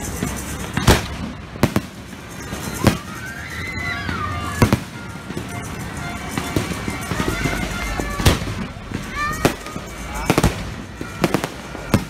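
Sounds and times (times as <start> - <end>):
distant fireworks bangs: 0.0 - 12.0
fireworks booming overhead: 0.0 - 12.0
fireworks crackling: 0.0 - 12.0.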